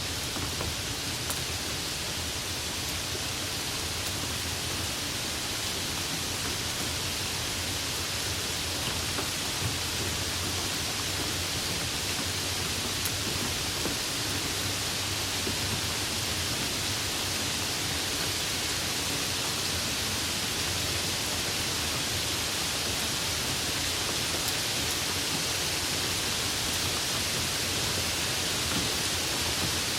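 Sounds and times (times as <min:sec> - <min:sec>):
light rain hissing: 0:00.0 - 0:29.9.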